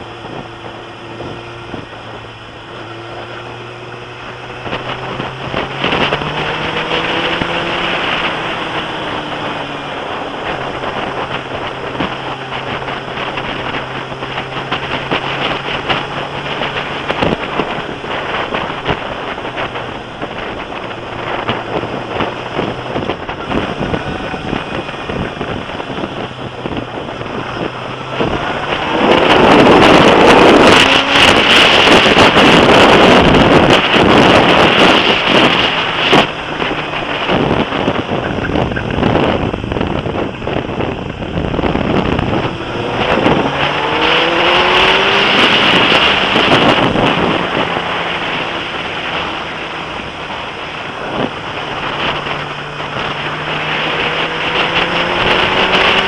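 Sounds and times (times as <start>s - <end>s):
motorcycle engine: 0.0s - 56.0s
wind noise on microphone: 0.0s - 56.0s.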